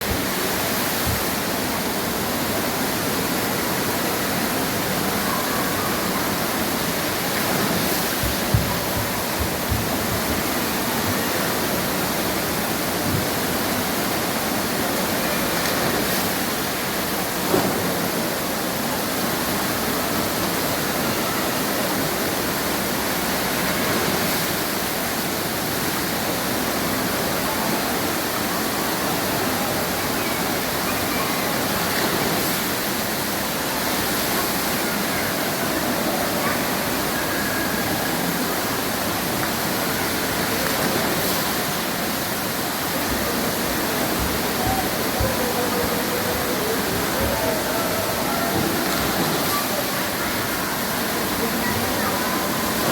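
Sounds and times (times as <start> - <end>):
water pouring and splashing: 0.0 - 52.9.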